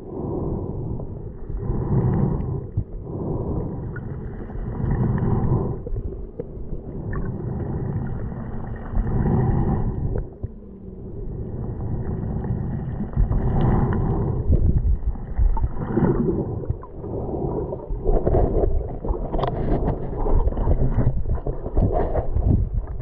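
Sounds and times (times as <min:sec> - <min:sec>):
underwater water sloshing: 0:00.0 - 0:23.0.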